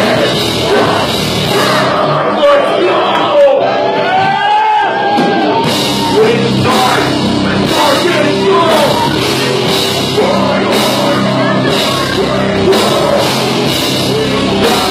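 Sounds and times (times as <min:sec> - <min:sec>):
pounding drums: 0:00.0 - 0:02.3, 0:05.0 - 0:14.9
bass guitar: 0:00.0 - 0:14.9
distorted guitars: 0:00.0 - 0:14.9
shouted vocals: 0:00.0 - 0:14.9.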